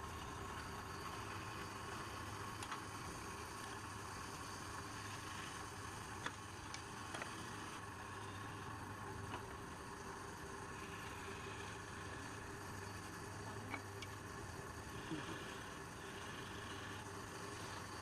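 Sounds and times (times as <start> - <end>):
wood lathe humming: 0.0 - 18.0.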